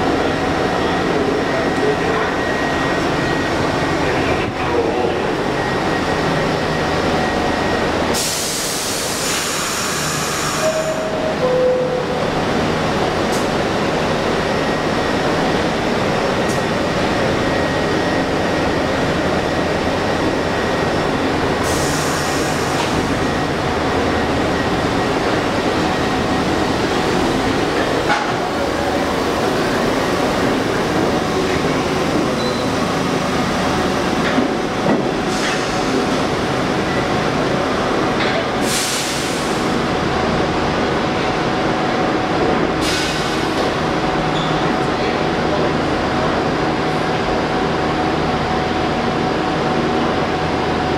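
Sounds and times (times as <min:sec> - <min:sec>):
train rumble and rattle: 0:00.0 - 0:50.9.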